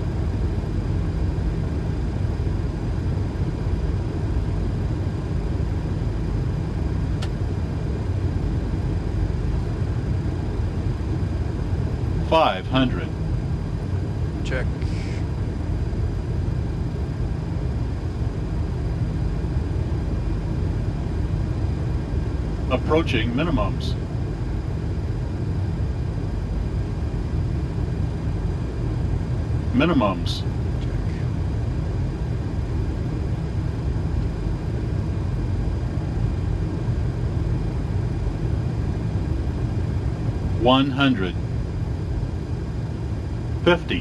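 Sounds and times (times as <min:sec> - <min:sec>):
aircraft engine and airflow rumble: 0:00.0 - 0:44.0.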